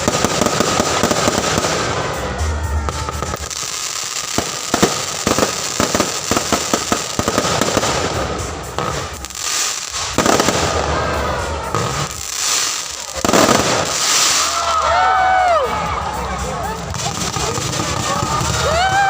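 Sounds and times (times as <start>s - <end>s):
fireworks crackling pops: 0.0s - 19.0s
heavy firework bursts: 0.0s - 19.0s.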